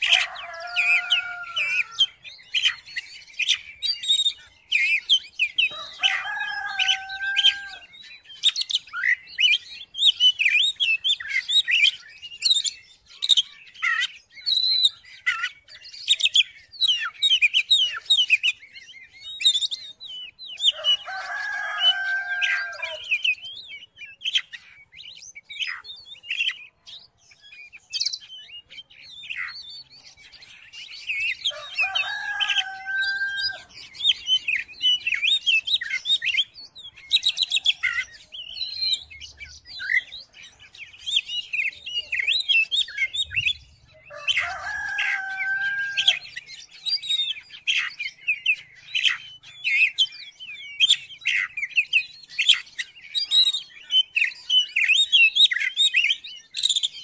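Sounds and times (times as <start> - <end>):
bird singing varied song: 0.0 - 57.0.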